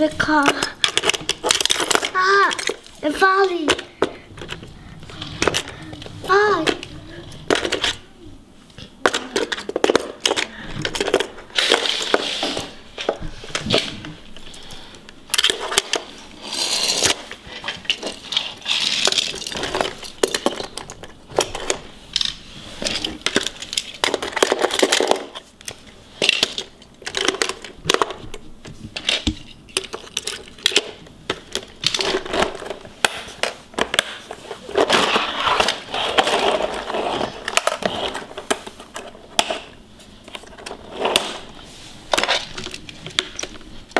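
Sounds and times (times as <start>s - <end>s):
toy cars clattering against plastic: 0.0s - 8.0s, 9.0s - 14.7s, 15.3s - 28.3s, 29.0s - 39.7s.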